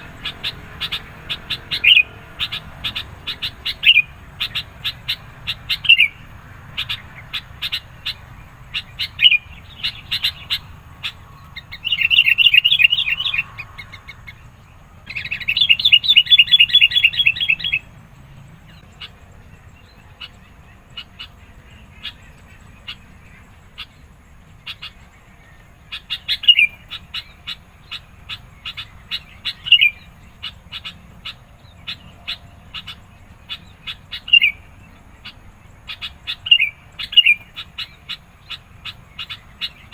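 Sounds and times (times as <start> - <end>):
bird chattering: 0.0 - 18.0, 18.6 - 39.9
bird chirping: 0.0 - 39.9.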